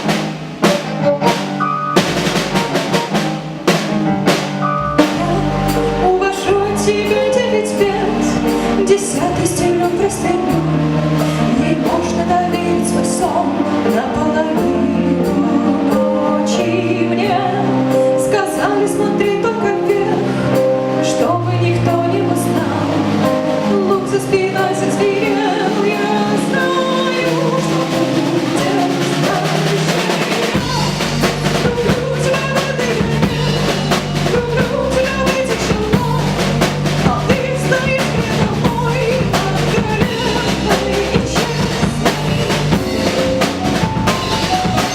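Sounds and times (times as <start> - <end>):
low bass: 0.0 - 18.1, 19.9 - 44.9
band instruments playing: 0.0 - 44.9
drum kit: 0.0 - 44.9
person singing: 5.0 - 44.9.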